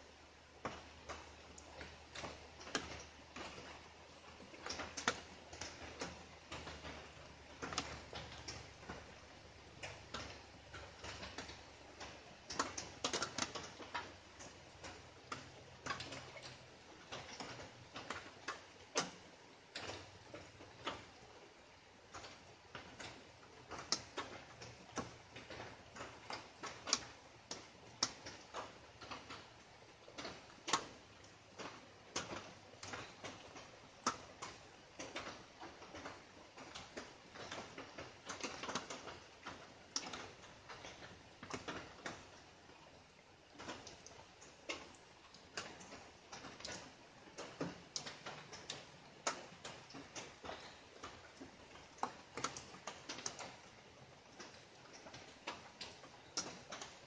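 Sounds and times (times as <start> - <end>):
faint rain hiss: 0.0 - 57.0
raindrops ticking: 0.0 - 57.0.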